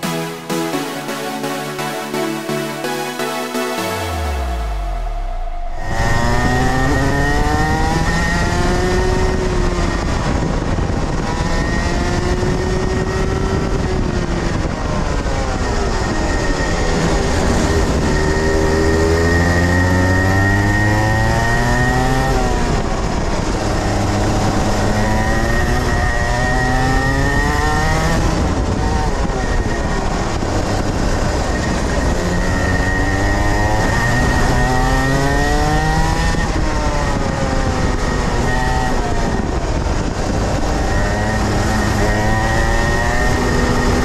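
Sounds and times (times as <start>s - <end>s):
kart engine revving: 5.1s - 44.0s.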